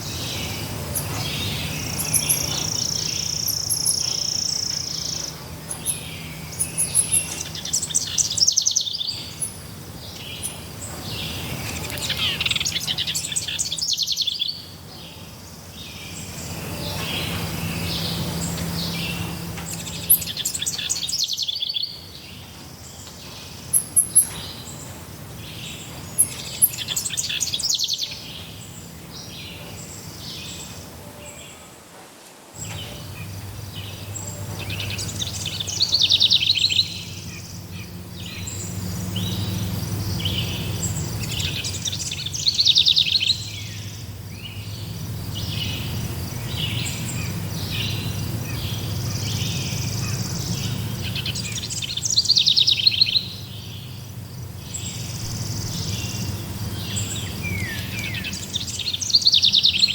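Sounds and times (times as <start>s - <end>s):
wild birds singing and calling: 0.0s - 59.9s.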